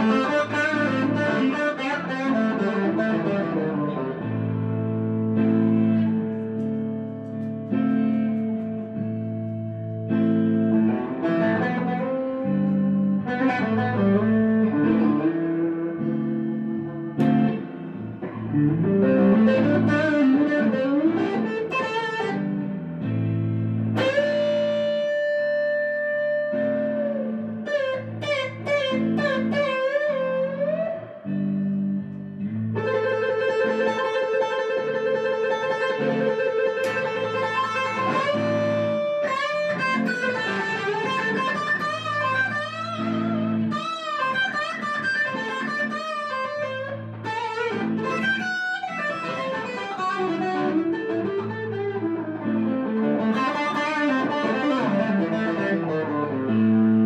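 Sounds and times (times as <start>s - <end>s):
electric guitar music: 0.0s - 57.0s.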